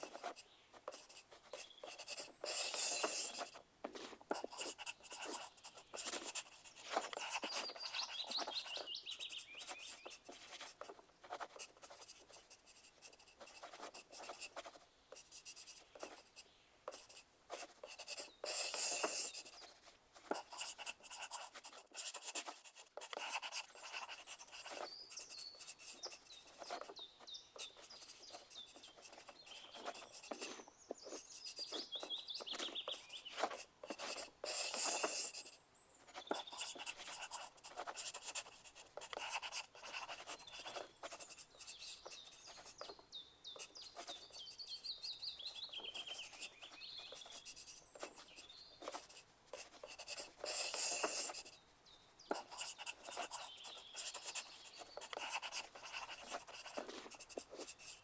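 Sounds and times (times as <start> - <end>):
pencil writing on paper: 0.0 - 43.0, 43.6 - 51.6, 52.3 - 58.0.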